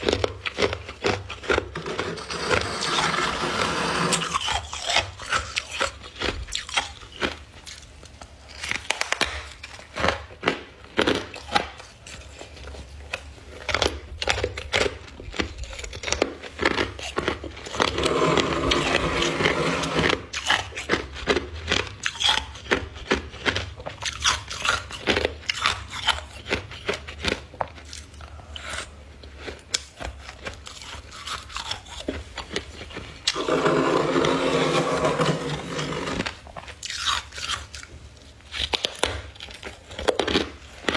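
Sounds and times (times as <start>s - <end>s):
person crunching frost: 0.0s - 40.9s.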